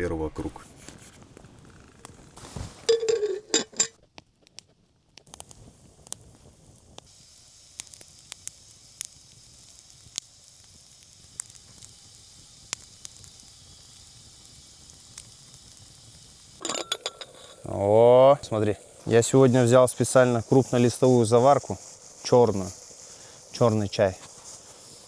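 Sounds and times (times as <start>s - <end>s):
steady high hiss: 0.0s - 3.9s, 5.3s - 25.0s
campfire crackling and popping: 0.1s - 25.0s.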